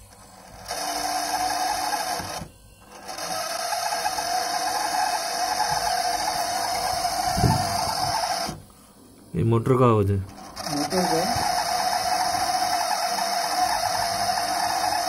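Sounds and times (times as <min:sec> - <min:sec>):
refrigerator fan motor running: 0:00.0 - 0:15.0.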